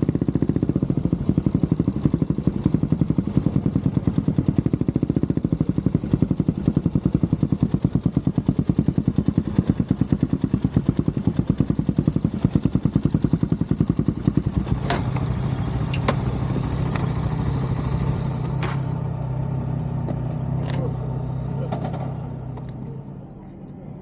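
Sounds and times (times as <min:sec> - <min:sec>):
motorcycle engine idling: 0:00.0 - 0:23.7.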